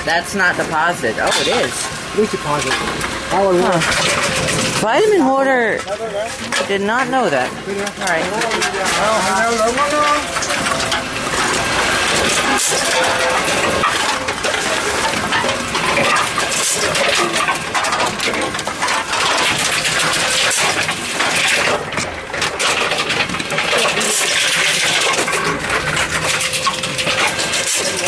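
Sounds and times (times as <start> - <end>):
containers clattering through machines: 0.0 - 28.0.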